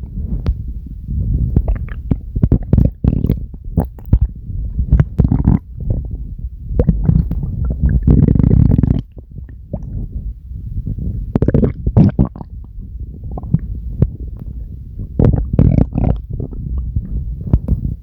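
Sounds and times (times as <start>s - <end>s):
stomach growling: 1.2s - 18.0s.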